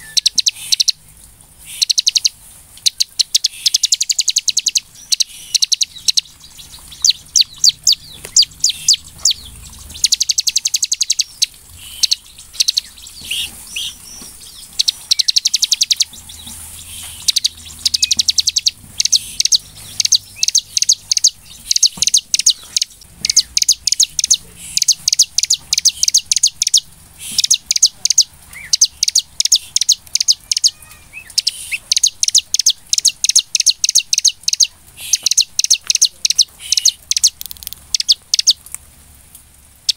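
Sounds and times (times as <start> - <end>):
bird singing sharp chipping notes: 1.7 - 38.6.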